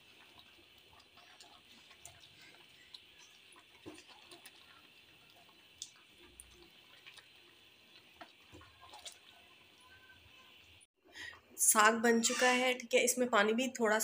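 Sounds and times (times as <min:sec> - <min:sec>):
pot bubbling and popping: 0:00.0 - 0:11.4.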